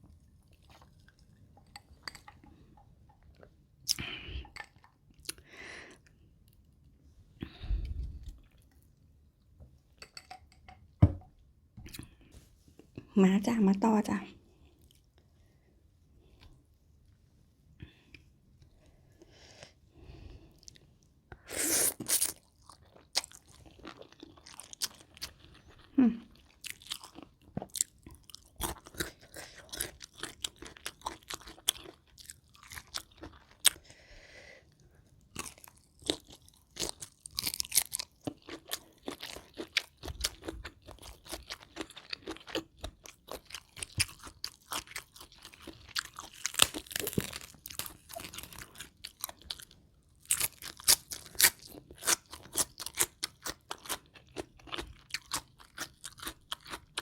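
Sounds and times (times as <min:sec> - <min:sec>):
chewing and crunching food: 0:00.0 - 0:09.9, 0:14.1 - 0:17.1, 0:17.8 - 0:57.0.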